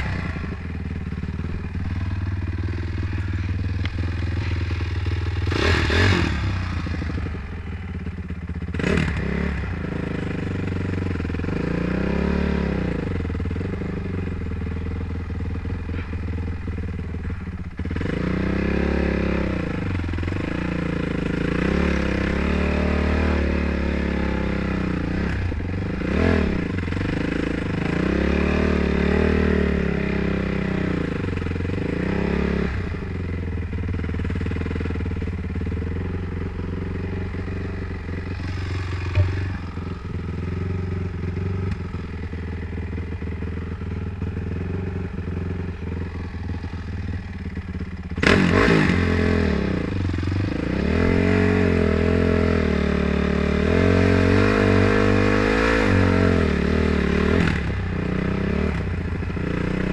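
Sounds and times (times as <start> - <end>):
dirt bike engine revving: 0.0 - 14.6, 15.3 - 59.9.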